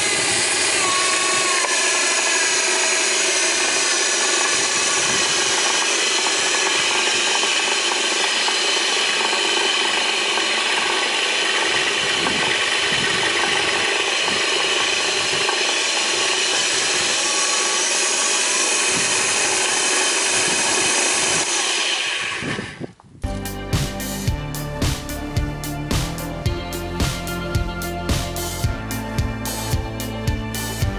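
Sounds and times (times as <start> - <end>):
power feeder motor running: 0.0 - 30.9.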